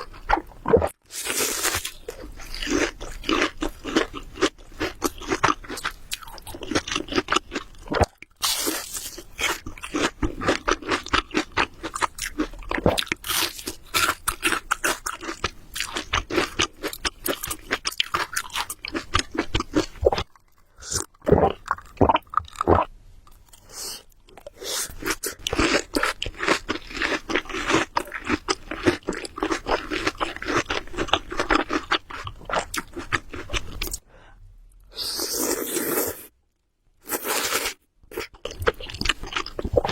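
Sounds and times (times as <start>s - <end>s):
wet chewing of noodles: 0.0s - 22.9s, 23.5s - 34.0s, 37.0s - 39.9s.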